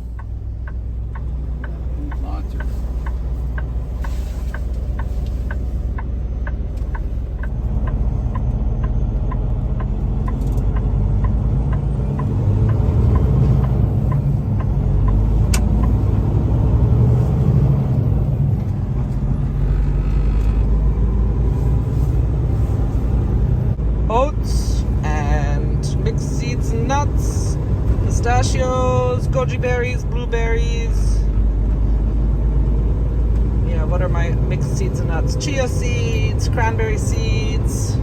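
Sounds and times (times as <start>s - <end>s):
diesel truck engine rumbling: 0.0s - 38.0s
turn signal ticking: 0.0s - 38.0s.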